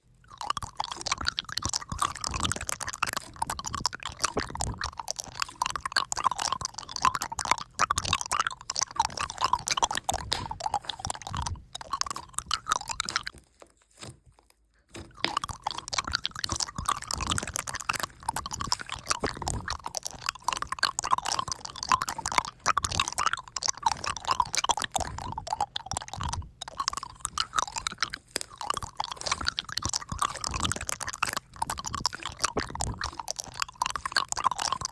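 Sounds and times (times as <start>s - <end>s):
dense rapid crackling clicks: 0.0s - 13.4s, 15.2s - 34.9s.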